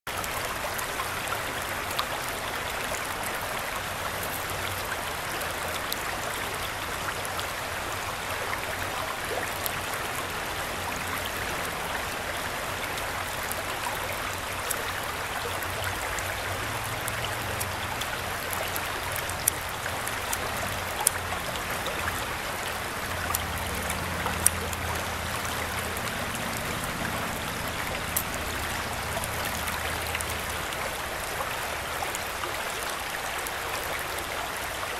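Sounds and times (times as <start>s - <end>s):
creek water flowing over rocks: 0.1s - 34.9s.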